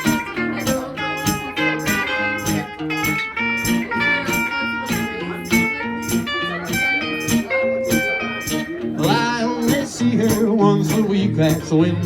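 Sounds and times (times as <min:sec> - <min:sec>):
guitar melody: 0:00.0 - 0:12.0
live band playing: 0:00.0 - 0:12.0.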